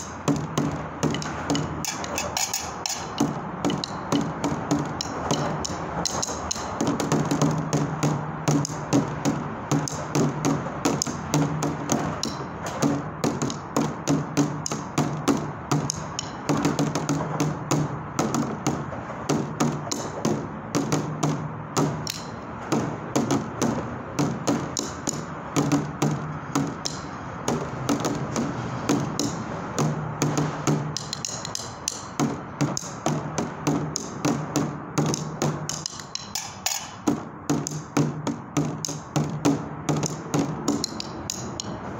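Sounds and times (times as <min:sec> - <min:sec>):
drumsticks beating a plastic bucket: 0:00.0 - 0:41.8.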